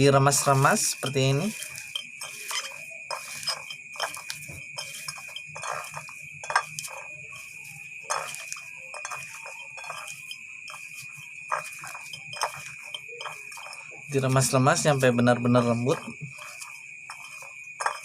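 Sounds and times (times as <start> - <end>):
hands crushing wet leaves: 0.0 - 18.0.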